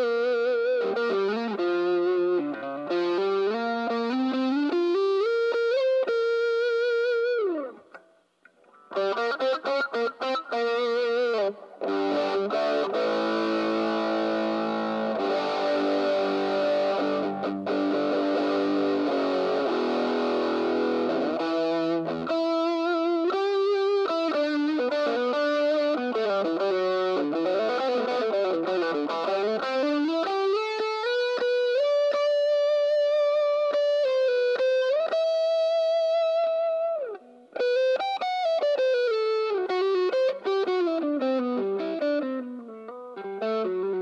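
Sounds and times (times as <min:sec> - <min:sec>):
distorted electric guitar: 0:00.0 - 0:44.0.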